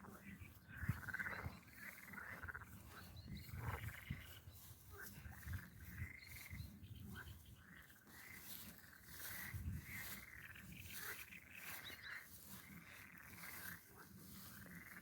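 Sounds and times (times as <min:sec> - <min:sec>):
frogs croaking: 0:00.0 - 0:15.0.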